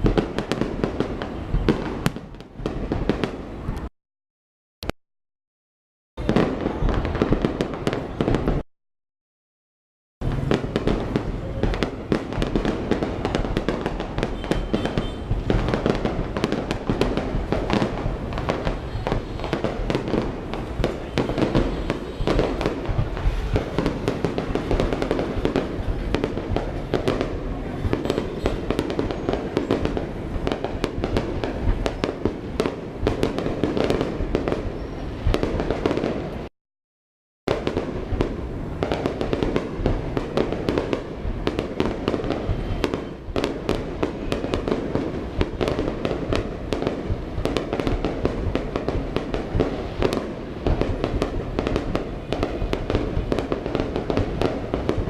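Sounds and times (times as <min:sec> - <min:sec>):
fireworks bangs and crackles: 0:00.0 - 0:03.9, 0:06.2 - 0:08.6, 0:10.2 - 0:36.5, 0:37.5 - 0:55.0.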